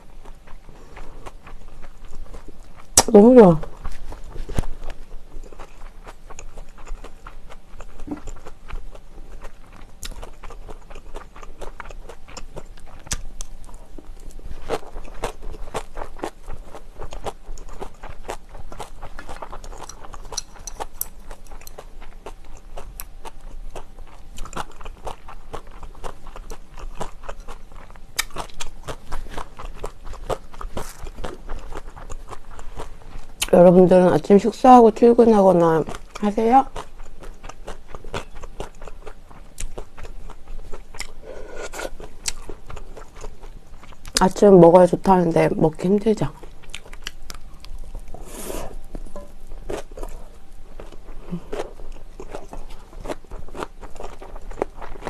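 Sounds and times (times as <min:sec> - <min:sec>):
close chewing with wet crunching: 0:00.0 - 0:55.0.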